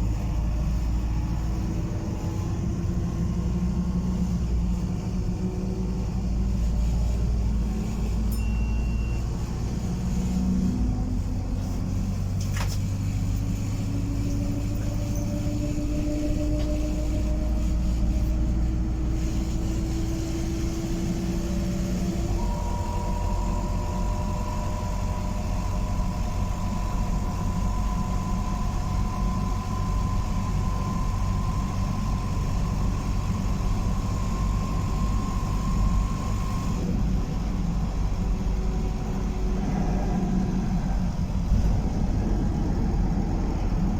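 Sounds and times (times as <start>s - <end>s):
bus engine and road rumble: 0.0s - 43.9s
rising engine whine: 0.0s - 43.9s.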